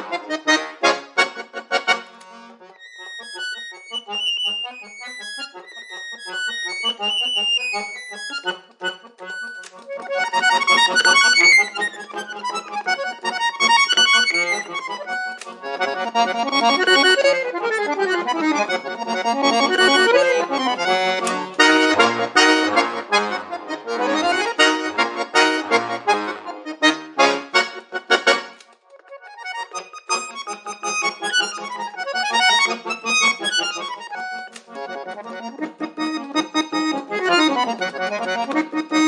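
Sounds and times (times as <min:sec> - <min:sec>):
solo accordion playing fast: 0:00.0 - 0:39.0.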